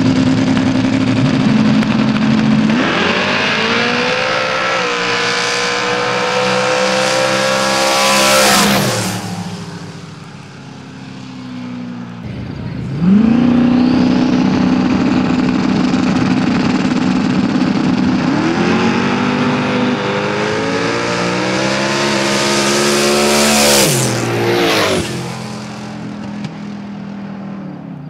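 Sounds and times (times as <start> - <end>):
drag car engines revving: 0.0 - 28.0.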